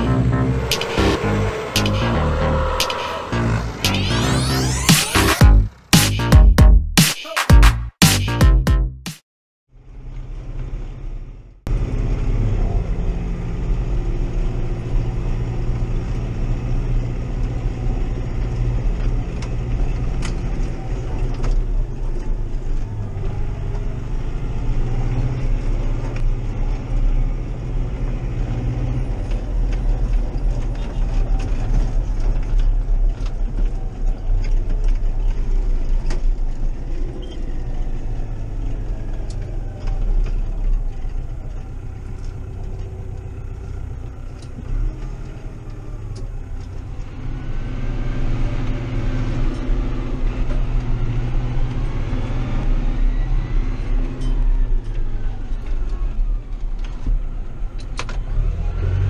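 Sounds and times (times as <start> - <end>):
tractor diesel engine running: 0.0 - 6.1, 9.8 - 58.2.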